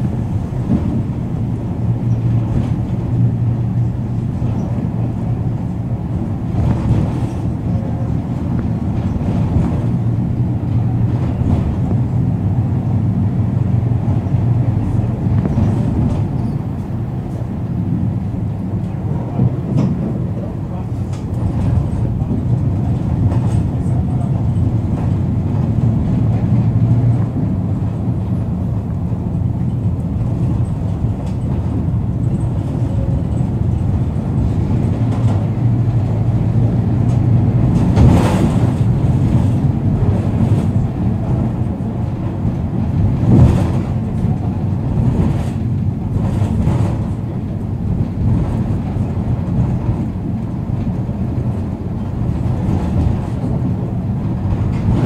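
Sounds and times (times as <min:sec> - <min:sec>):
diesel bus engine droning: 0:00.0 - 0:55.0.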